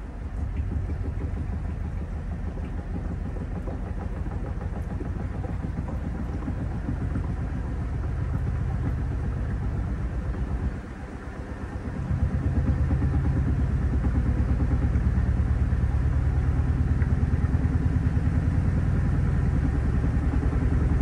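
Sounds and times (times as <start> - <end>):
washing machine spinning: 0.0 - 21.0.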